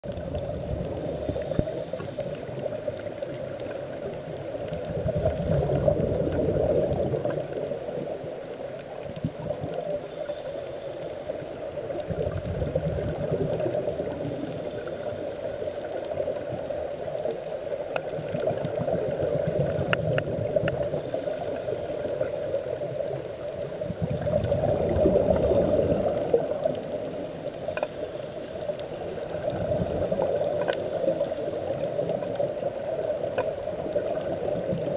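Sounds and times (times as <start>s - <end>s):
steady underwater drone: 0.0s - 34.9s
underwater regulator bubbles: 0.0s - 34.9s.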